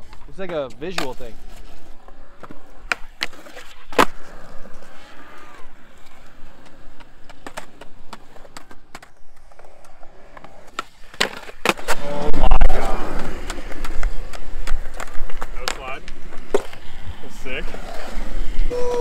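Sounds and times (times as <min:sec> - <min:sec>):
skateboards slapping on concrete: 0:00.0 - 0:19.0.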